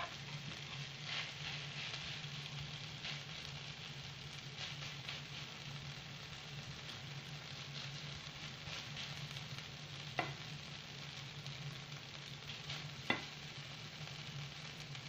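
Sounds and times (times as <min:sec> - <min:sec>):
potatoes sizzling in a frying pan: 0:00.0 - 0:15.0.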